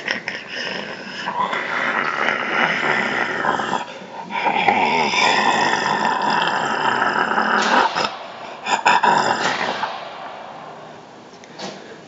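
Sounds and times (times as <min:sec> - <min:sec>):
guttural zombie growl: 0:00.0 - 0:10.5.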